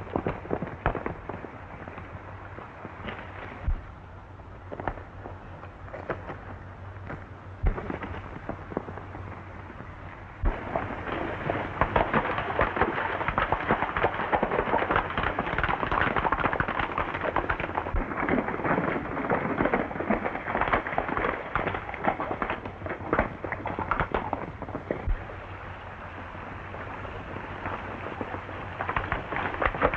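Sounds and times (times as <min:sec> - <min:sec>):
horses galloping hoofbeats: 0:00.0 - 0:29.9.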